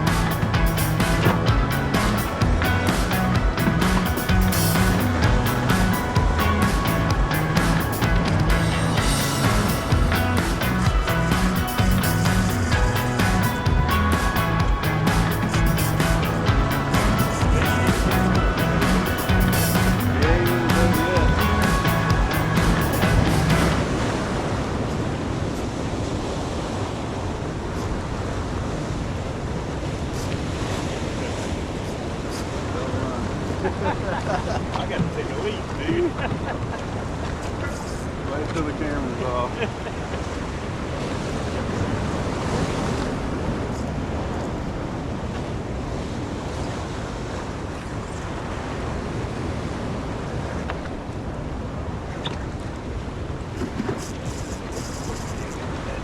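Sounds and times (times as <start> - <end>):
surf washing: 0.0 - 56.0.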